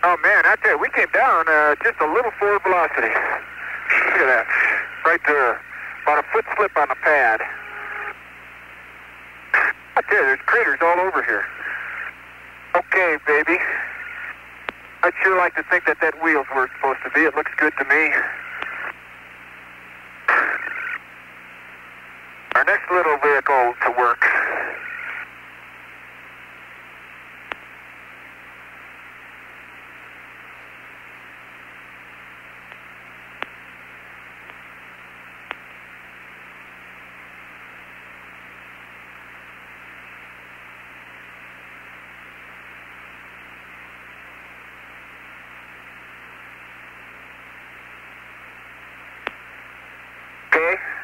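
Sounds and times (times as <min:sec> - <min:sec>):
faint low hum: 0:00.0 - 0:51.0
radio static hiss: 0:00.0 - 0:51.0.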